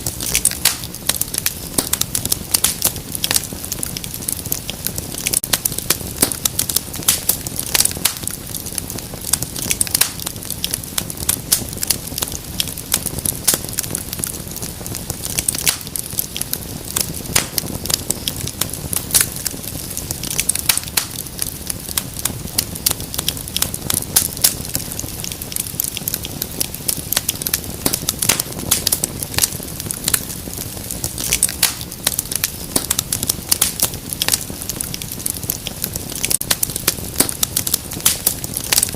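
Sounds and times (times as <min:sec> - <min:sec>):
fire popping and snapping: 0:00.0 - 0:38.9.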